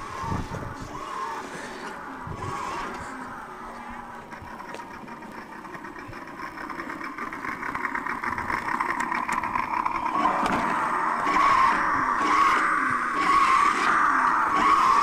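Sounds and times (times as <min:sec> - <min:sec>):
toy truck motor buzzing: 0:00.0 - 0:15.0.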